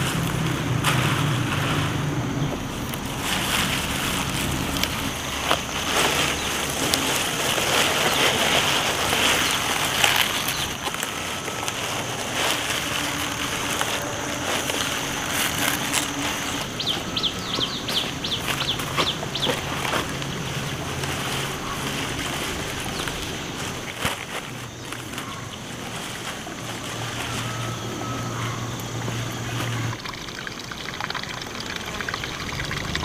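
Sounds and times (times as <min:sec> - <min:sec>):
green onion stalks rustling: 0:00.0 - 0:33.0.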